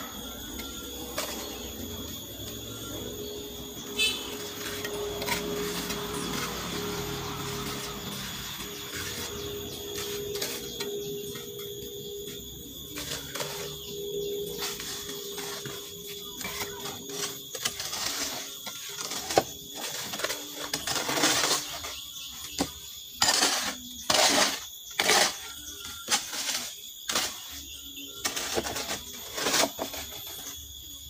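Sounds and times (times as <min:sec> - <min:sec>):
hoe scraping wet mortar: 0:00.1 - 0:30.6.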